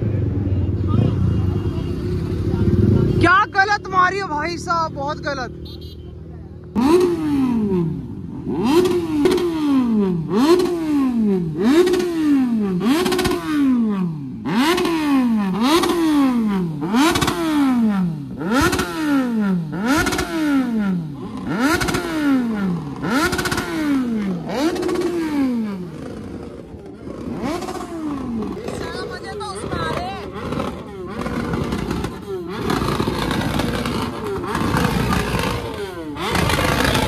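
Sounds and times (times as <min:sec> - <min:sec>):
motorcycle engine revving: 0:00.0 - 0:05.9, 0:06.6 - 0:37.0.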